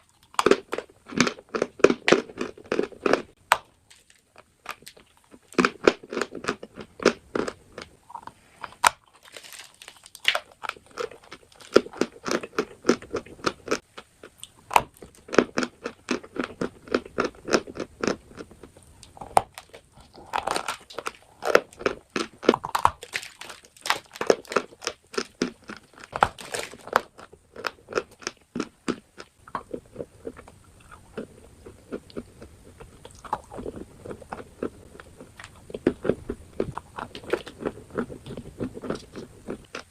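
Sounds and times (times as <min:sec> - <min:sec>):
person chewing crunchy chalk: 0:00.0 - 0:39.9.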